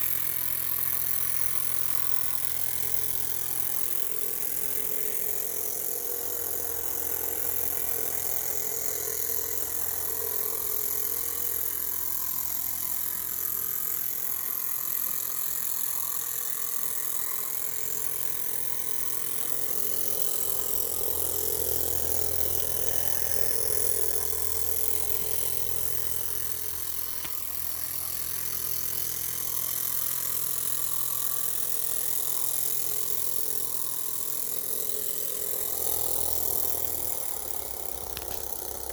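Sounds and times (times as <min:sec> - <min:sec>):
mechanical rattle: 0:00.0 - 0:38.9.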